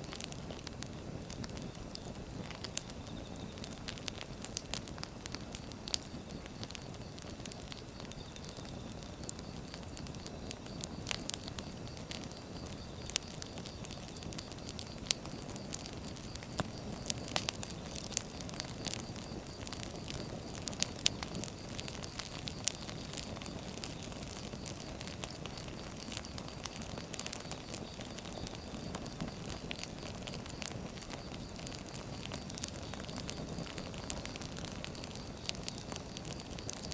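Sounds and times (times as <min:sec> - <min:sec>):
fire rushing: 0:00.0 - 0:36.9
firewood crackling and popping: 0:00.0 - 0:36.9.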